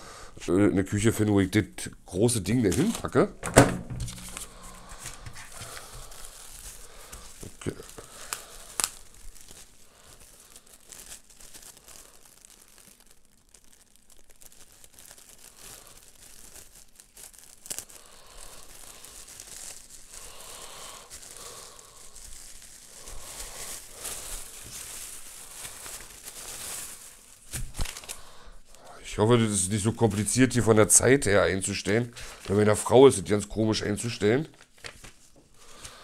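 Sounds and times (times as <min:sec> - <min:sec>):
plastic bag crinkling: 0:02.2 - 0:36.0.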